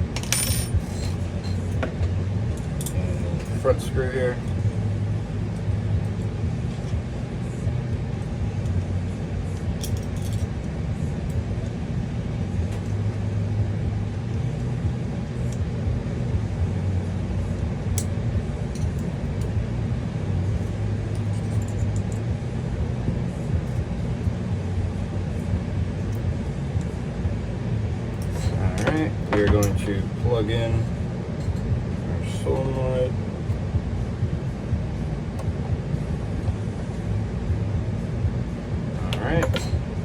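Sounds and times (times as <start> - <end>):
low background rumble: 0.0 - 40.0.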